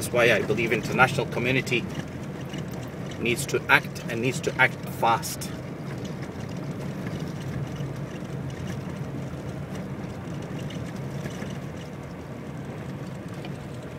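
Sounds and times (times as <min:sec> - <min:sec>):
vehicle engine and tyres rumbling: 0:00.0 - 0:13.9.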